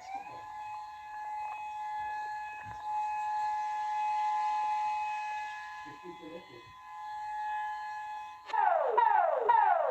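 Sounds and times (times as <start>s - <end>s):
civil defense warning siren: 0.0s - 9.9s.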